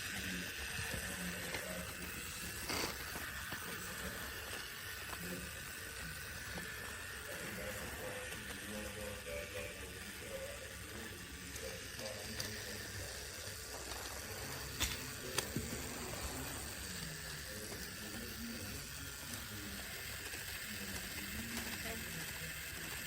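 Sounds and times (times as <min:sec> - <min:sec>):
toy train motor running: 0:00.0 - 0:23.0.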